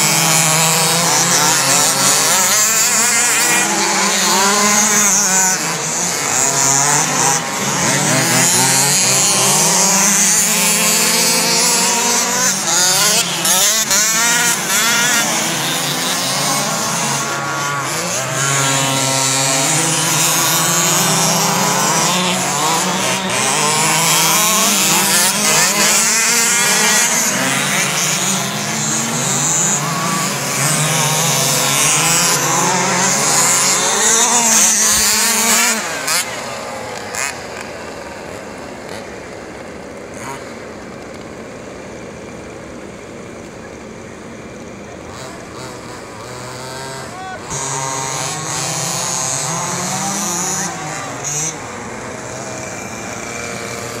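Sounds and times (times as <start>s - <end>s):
radio-controlled car motors revving: 0.0s - 54.0s.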